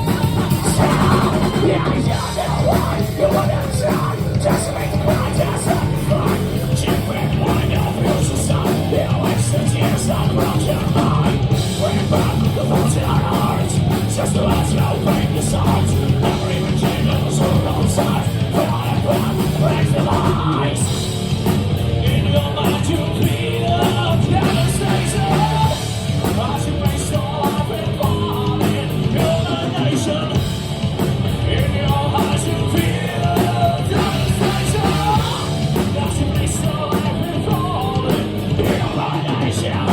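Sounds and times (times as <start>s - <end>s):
live thrash metal band: 0.0s - 39.9s.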